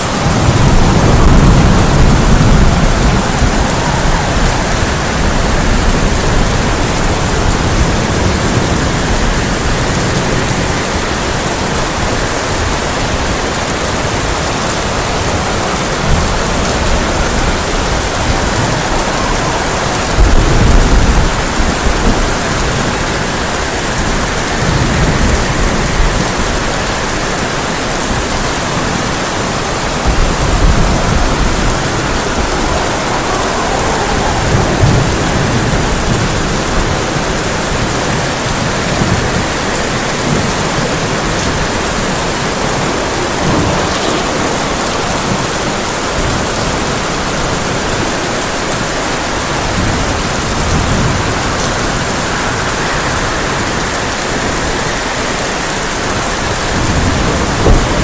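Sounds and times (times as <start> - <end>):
heavy rain on a tin roof: 0.0 - 58.0
thunder rumbling: 0.0 - 58.0.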